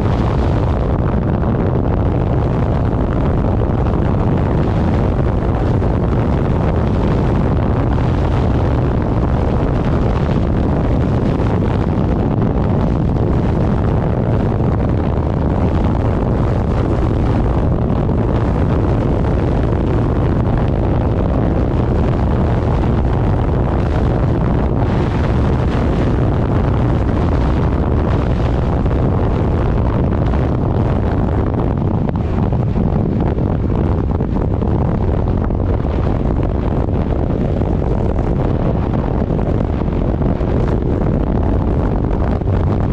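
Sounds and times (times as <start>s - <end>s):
low vehicle drone: 0.0s - 42.9s
wind noise on microphone: 0.0s - 42.9s.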